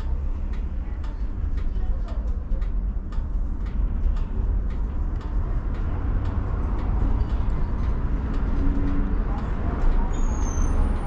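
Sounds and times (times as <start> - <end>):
faint regular clicks: 0.0 - 10.6
tram rumbling: 0.0 - 11.0.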